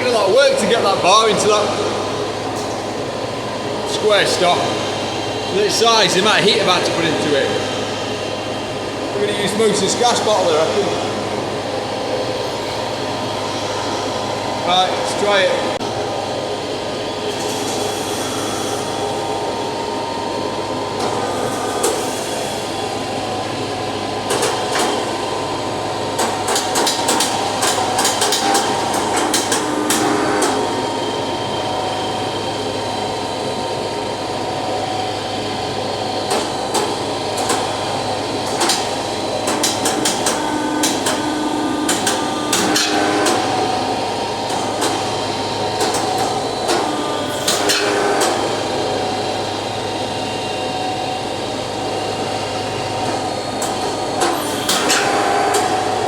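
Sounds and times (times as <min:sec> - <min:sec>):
gas forge rushing: 0:00.0 - 0:56.0.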